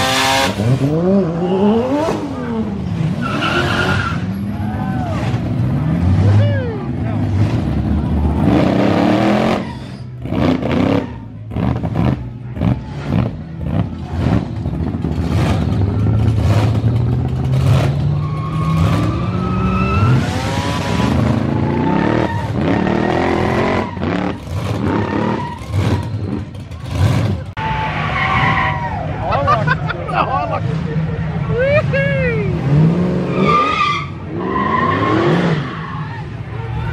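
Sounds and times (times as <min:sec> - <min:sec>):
car engines revving: 0:00.0 - 0:36.9.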